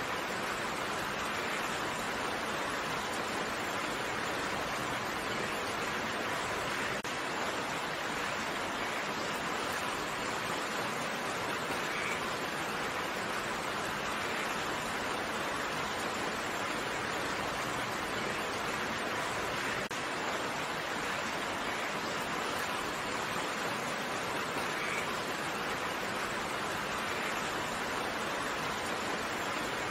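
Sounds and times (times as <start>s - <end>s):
steady rain: 0.0s - 29.9s.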